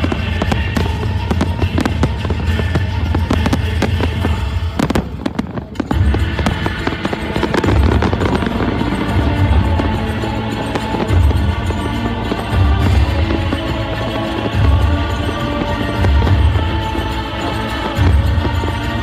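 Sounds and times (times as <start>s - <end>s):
fireworks bursting and crackling: 0.0s - 19.0s
loud music: 0.0s - 19.0s.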